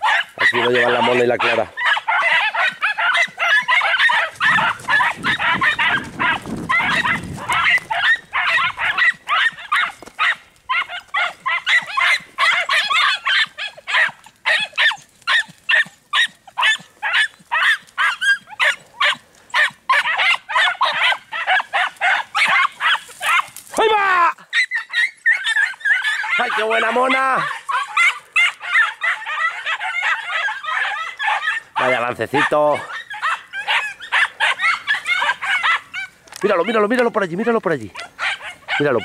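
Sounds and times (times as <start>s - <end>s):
hounds yelping: 0.0s - 39.0s.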